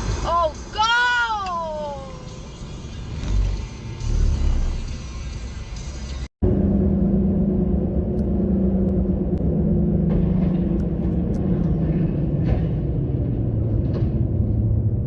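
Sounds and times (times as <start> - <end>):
car road and engine drone: 0.0 - 15.0.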